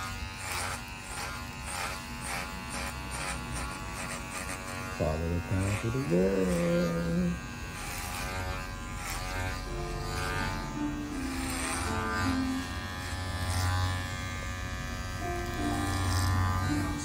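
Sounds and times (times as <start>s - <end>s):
electric hair clippers buzzing: 0.0s - 17.0s.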